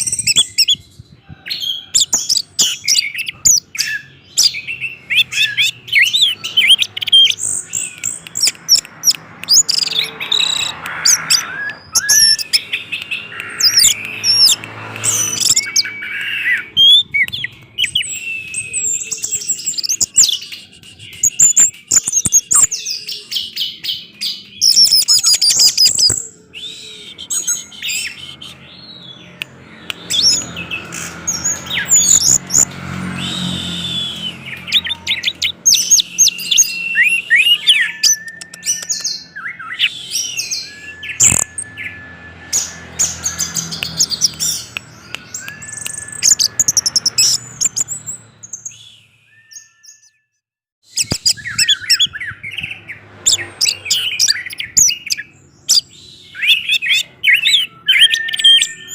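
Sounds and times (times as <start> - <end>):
thrush singing: 1.5 - 49.2.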